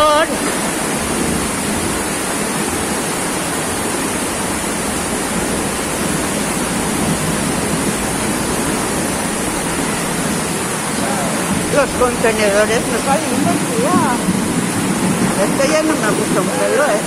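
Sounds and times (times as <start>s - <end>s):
torrential rain and rushing floodwater: 0.0s - 17.0s.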